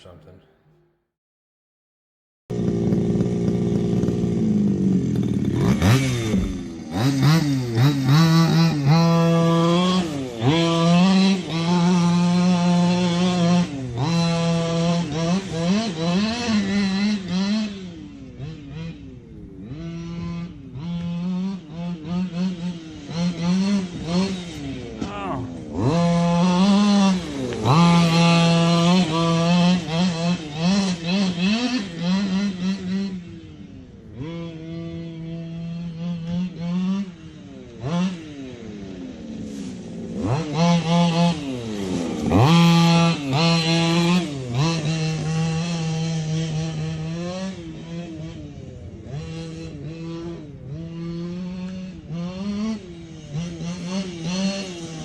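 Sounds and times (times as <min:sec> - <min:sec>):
two-stroke engine revving: 0:02.5 - 0:55.0.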